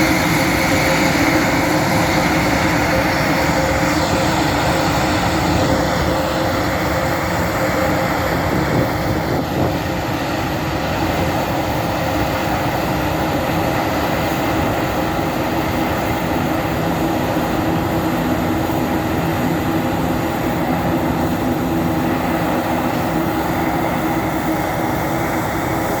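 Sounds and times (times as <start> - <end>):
turboprop engines droning: 0.0 - 26.0.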